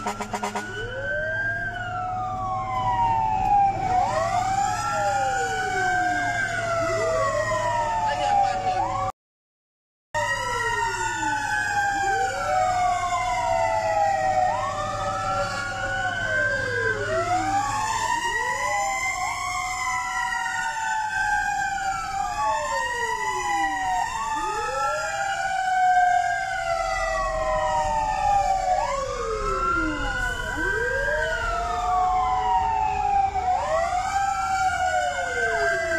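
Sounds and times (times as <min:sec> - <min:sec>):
fire truck sirens wailing: 0:00.0 - 0:09.2, 0:10.2 - 0:35.9.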